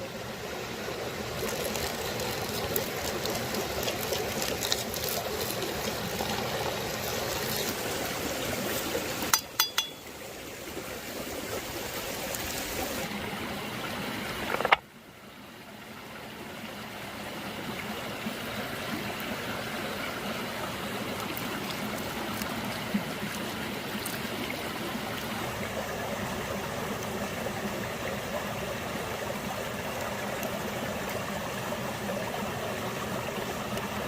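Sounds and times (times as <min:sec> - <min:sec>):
stream water rushing and trickling: 0:00.0 - 0:34.0.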